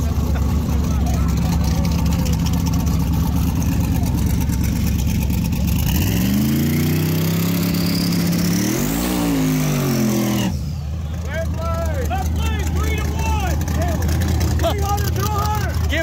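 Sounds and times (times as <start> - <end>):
drag car engine revving: 0.0 - 16.0.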